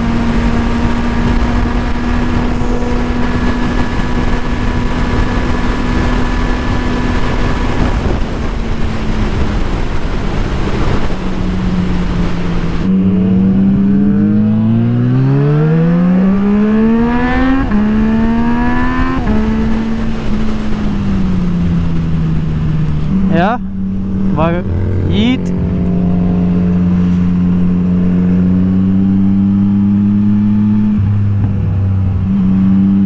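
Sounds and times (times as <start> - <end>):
motorcycle engine accelerating: 0.0 - 33.0
wind noise: 0.0 - 33.0.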